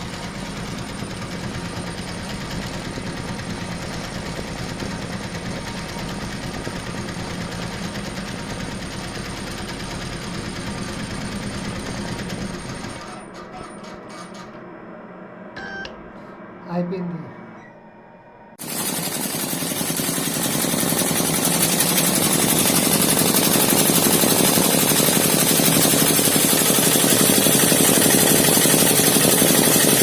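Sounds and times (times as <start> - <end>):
embroidery machine stitching: 0.0 - 14.6, 18.6 - 30.0.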